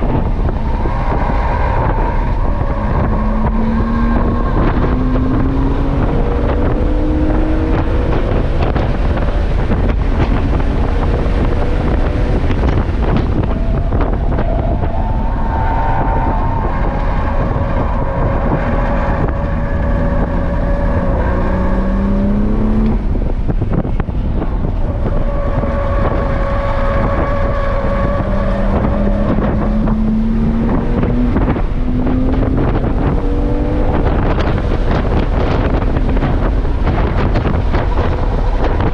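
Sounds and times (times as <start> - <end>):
car engine accelerating: 0.0 - 38.9
wind noise on microphone: 0.0 - 38.9.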